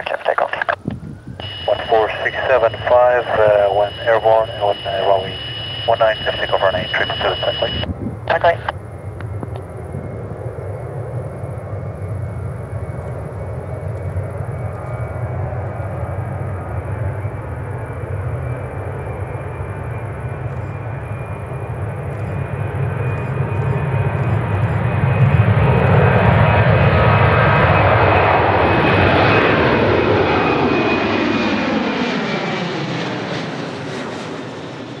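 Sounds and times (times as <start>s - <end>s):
high engine whine: 0.0s - 35.0s
jet airliner taking off: 0.0s - 35.0s.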